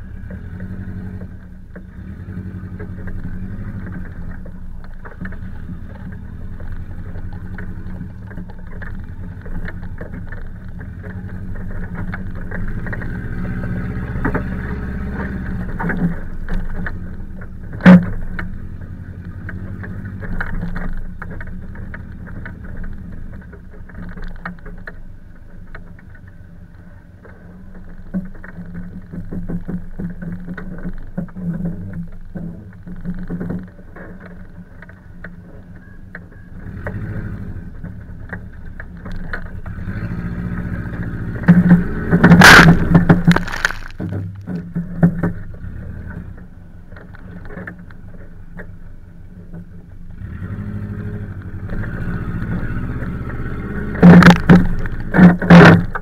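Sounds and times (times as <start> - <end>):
body and tyre knocks and rattles: 0.0 - 56.0
car engine running: 0.0 - 56.0.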